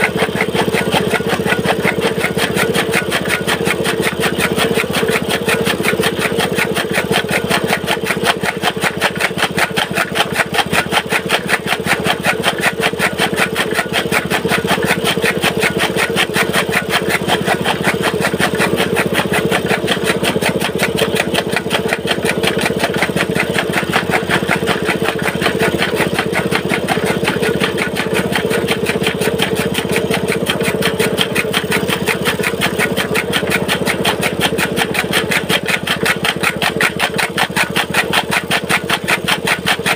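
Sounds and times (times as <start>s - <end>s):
chaff cutter chopping fodder: 0.0s - 39.9s
small petrol engine running: 0.0s - 39.9s.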